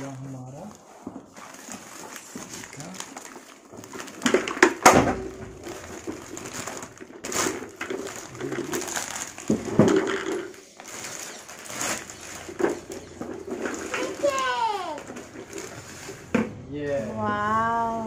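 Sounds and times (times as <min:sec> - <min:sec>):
plastic wrapping crinkling: 0:00.0 - 0:17.3.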